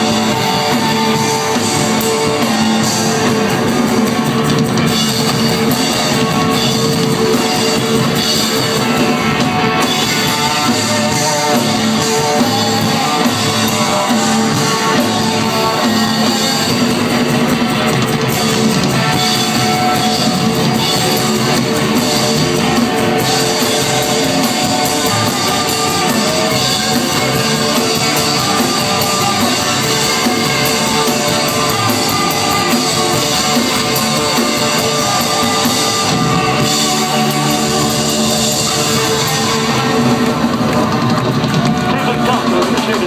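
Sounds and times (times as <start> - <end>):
live rock band playing loud: 0.0 - 43.0.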